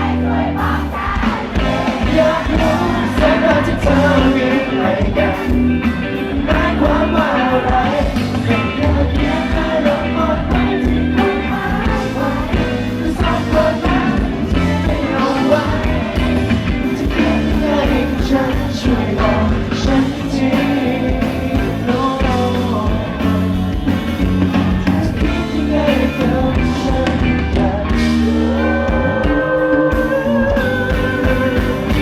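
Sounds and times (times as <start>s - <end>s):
person singing: 0.0s - 23.7s, 24.5s - 32.0s
live pop-rock band: 0.0s - 32.0s.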